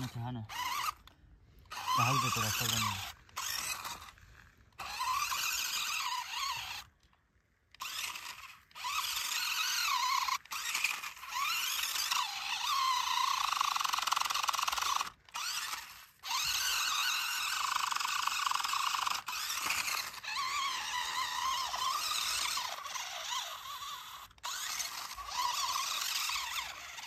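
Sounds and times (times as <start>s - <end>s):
toy truck electric motor whining: 0.0s - 27.0s.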